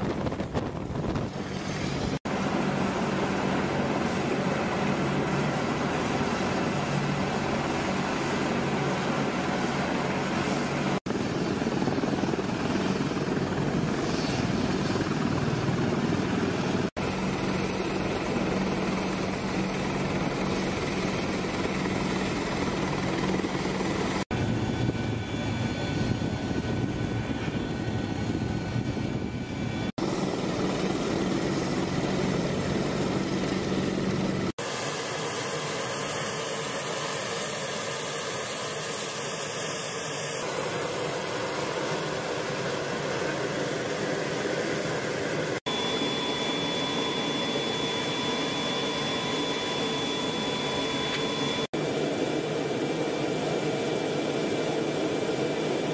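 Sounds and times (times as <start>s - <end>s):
helicopter engines and rotor: 0.0s - 55.9s.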